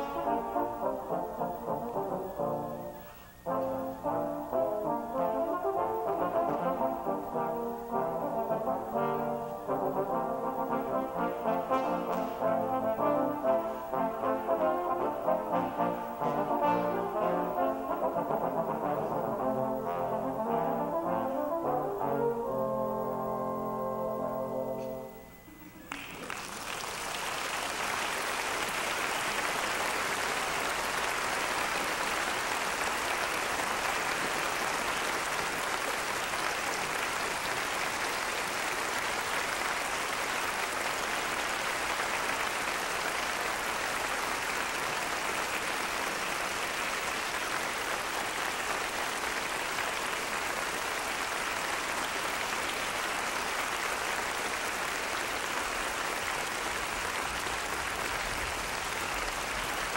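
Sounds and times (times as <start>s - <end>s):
audience applauding: 0.0s - 22.0s, 25.8s - 59.9s.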